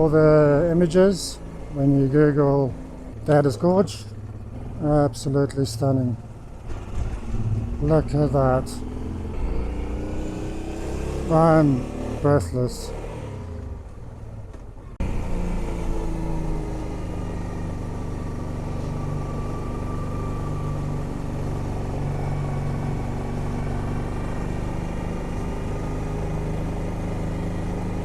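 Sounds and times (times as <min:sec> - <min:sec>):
motorcycle engine riding: 0:00.0 - 0:28.0.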